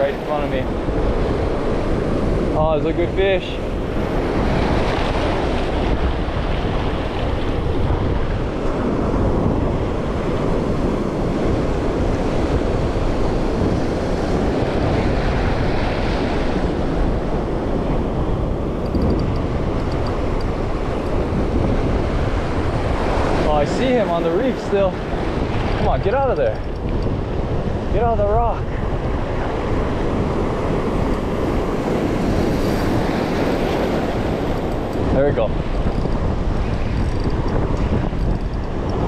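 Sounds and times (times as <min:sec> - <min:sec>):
ocean surf over rocks: 0:00.0 - 0:39.0
wind buffeting microphone: 0:00.0 - 0:39.0.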